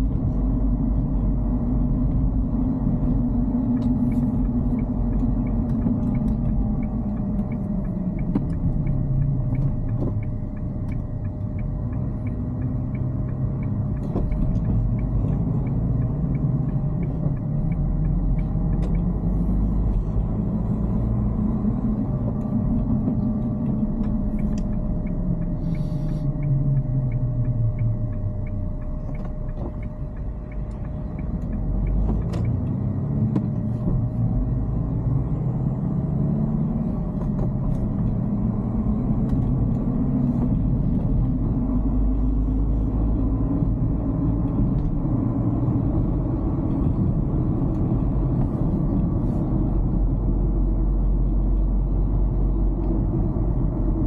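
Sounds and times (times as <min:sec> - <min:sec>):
car engine in cabin: 0:00.0 - 0:54.0.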